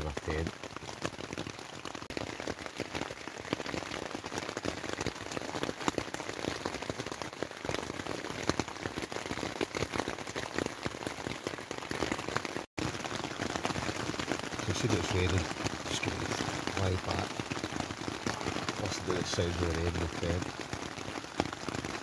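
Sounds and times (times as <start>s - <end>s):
heavy rain on tent fabric: 0.0s - 22.0s.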